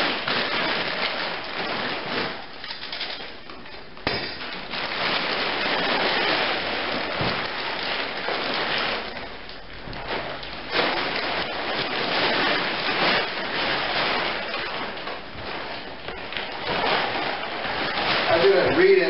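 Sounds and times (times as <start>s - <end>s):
fabric and packaging rustling: 0.0s - 19.0s.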